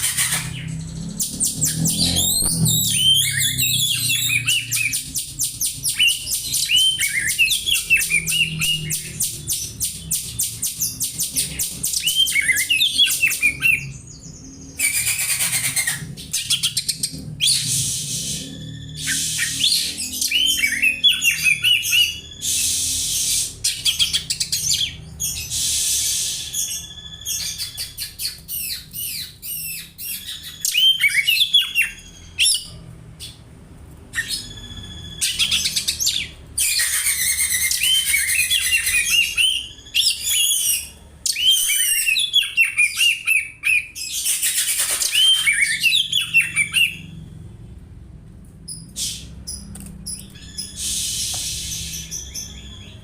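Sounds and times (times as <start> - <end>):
bird singing and chattering: 0.0 - 33.4, 34.2 - 47.2, 48.7 - 53.0.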